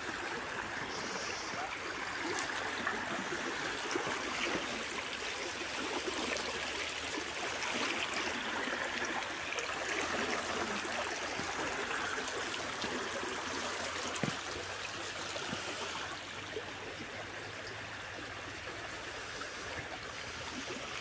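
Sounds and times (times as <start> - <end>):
stream babbling over rocks: 0.0 - 21.0.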